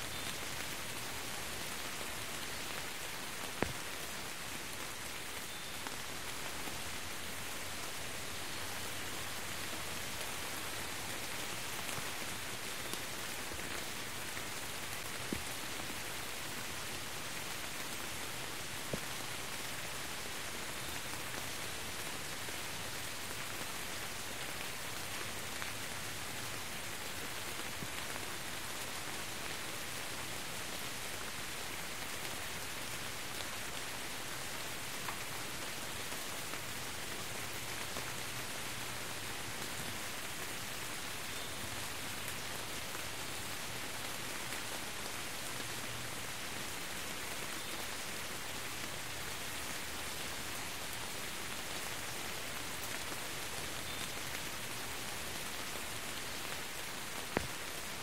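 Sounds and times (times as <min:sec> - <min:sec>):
rain splashing on hard ground: 0:00.0 - 0:58.0.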